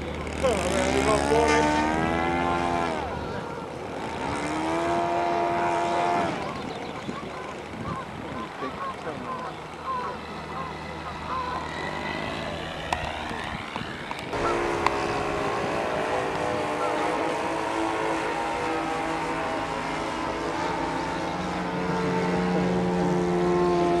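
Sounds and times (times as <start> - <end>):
model aircraft engines running: 0.0 - 24.0.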